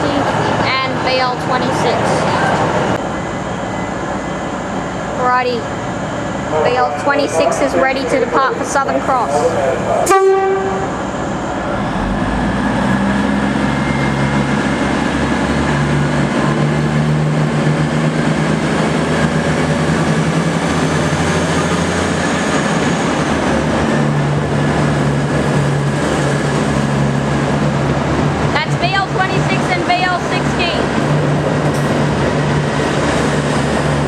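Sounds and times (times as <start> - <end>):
diesel railcar engines droning: 0.0 - 34.0.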